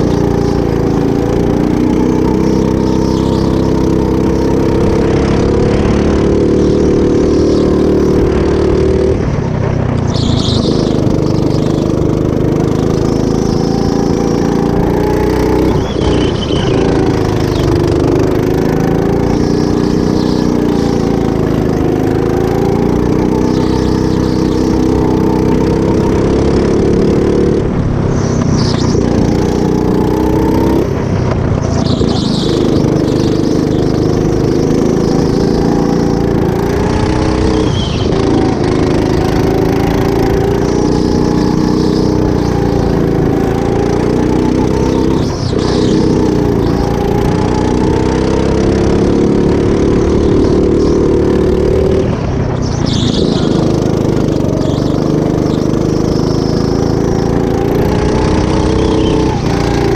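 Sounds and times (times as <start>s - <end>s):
go-kart engine: 0.0s - 59.9s.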